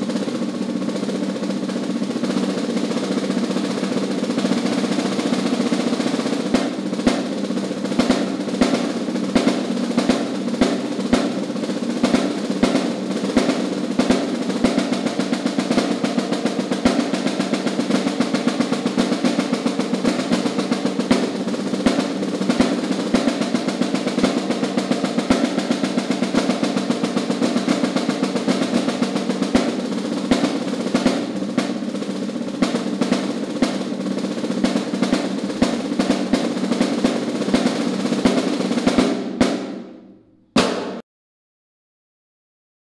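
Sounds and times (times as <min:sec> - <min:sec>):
snare drum rolls: 0:00.0 - 0:41.0.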